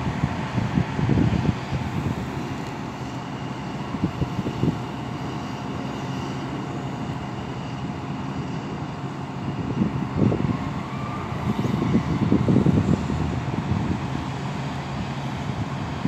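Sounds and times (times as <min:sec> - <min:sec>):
diesel engine drone: 0:00.0 - 0:16.0.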